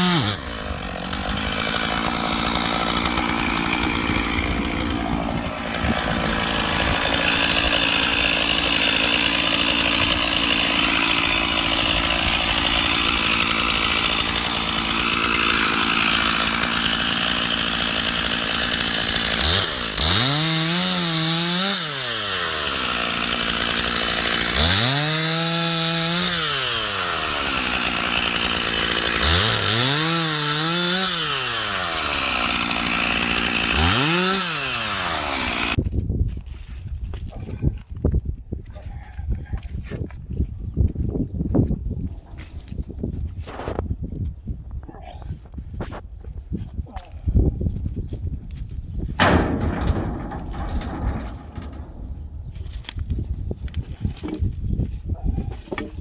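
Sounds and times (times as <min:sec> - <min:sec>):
chainsaw cutting logs: 0:00.0 - 0:35.9, 0:45.4 - 0:56.0.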